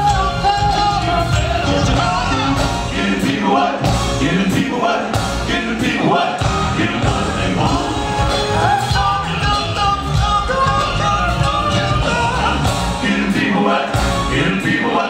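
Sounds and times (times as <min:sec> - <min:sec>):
backing vocals: 0:00.0 - 0:15.0
band playing: 0:00.0 - 0:15.0
congas: 0:00.0 - 0:15.0
vocal group singing: 0:00.0 - 0:15.0.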